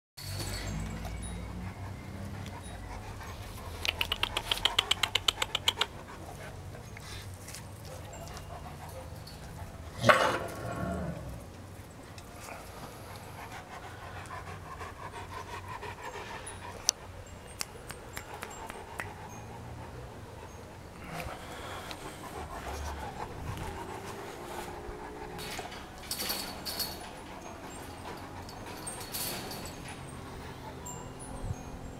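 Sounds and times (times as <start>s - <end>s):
dog panting: 0.7s - 9.9s, 12.1s - 17.2s, 18.2s - 31.1s.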